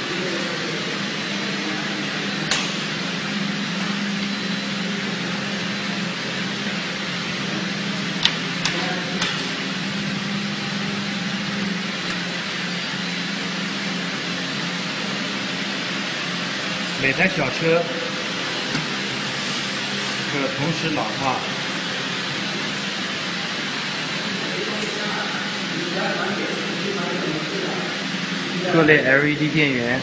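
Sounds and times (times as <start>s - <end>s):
cooling fans running: 0.0s - 30.0s
machinery whir and hiss: 0.0s - 30.0s.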